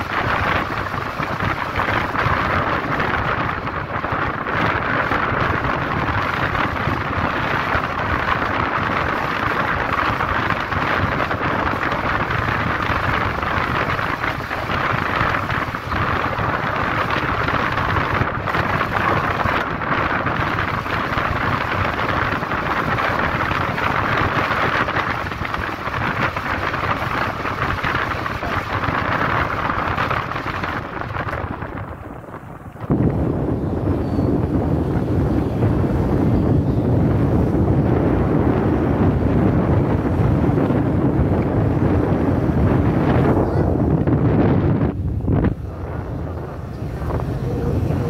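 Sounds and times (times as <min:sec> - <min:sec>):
vehicle road noise: 0:00.0 - 0:48.0
wind noise on microphone: 0:00.0 - 0:48.0.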